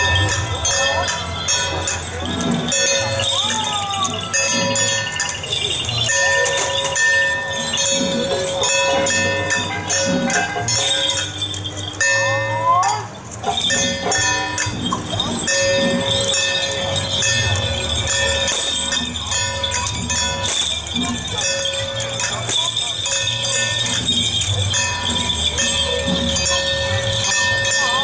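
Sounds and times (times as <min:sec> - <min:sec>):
procession music with held notes: 0:00.0 - 0:28.0
small metal bells jingling: 0:00.0 - 0:28.0.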